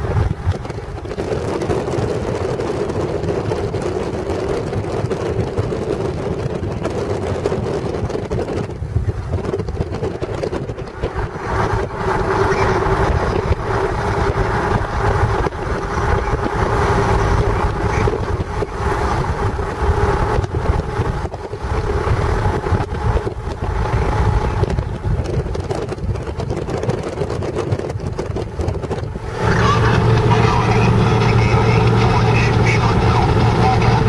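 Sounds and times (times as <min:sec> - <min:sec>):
constant hum: 0:00.0 - 0:34.0
vehicle engine and road drone: 0:00.0 - 0:34.0
wind rushing on microphone: 0:00.0 - 0:34.0.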